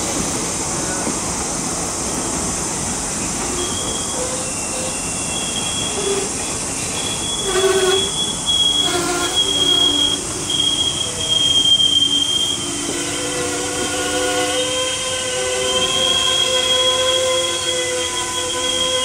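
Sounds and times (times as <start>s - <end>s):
train rumble: 0.0s - 19.0s
train wheels squealing: 3.3s - 19.0s.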